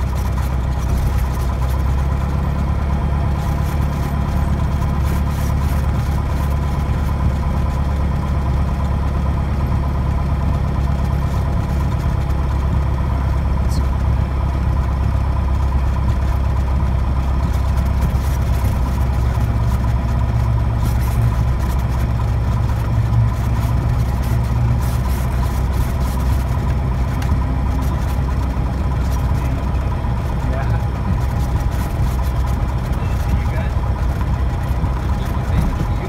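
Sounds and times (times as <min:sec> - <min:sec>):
propeller aircraft engine from cabin: 0:00.0 - 0:36.0.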